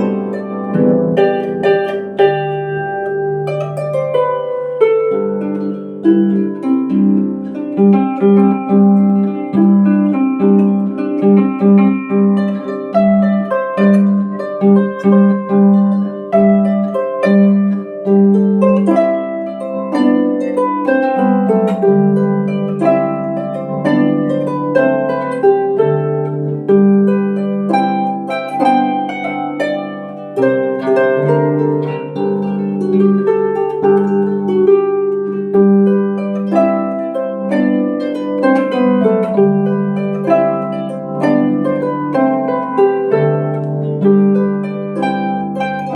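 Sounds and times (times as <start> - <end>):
harp melody: 0.0 - 45.9.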